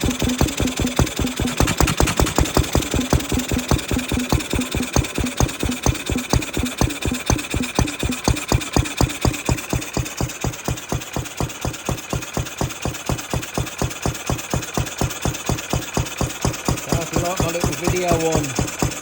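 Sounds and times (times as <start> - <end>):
single-cylinder engine running: 0.0 - 19.0.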